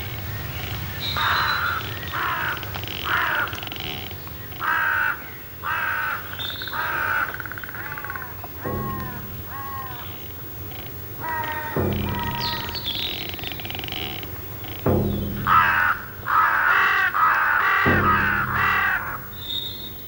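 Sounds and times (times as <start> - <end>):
crows cawing: 0.6 - 20.0.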